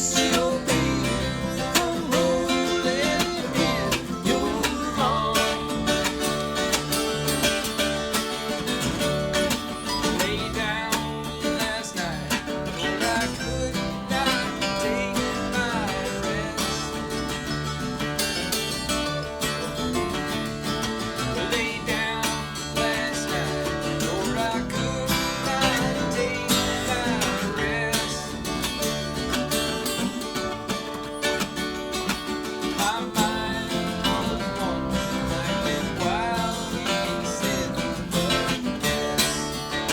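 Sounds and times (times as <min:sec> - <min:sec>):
acoustic string band playing: 0:00.0 - 0:39.9
plucked acoustic guitar: 0:00.0 - 0:39.9.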